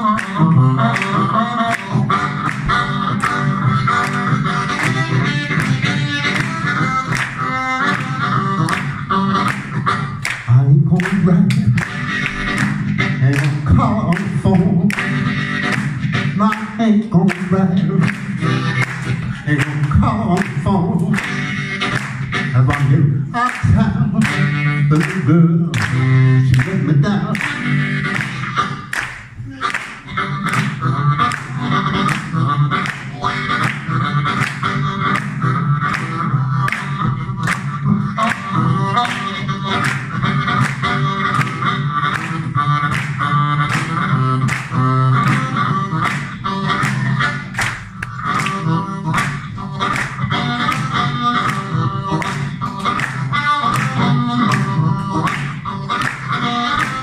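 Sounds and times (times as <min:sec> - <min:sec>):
amplified blues harmonica: 0:00.0 - 0:57.0.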